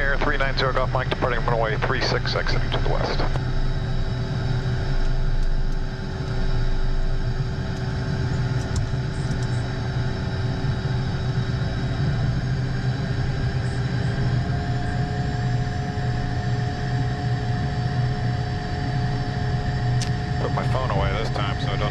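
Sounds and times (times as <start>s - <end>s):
jet engine whine: 0.0s - 21.9s
jet engines low hum: 0.0s - 21.9s.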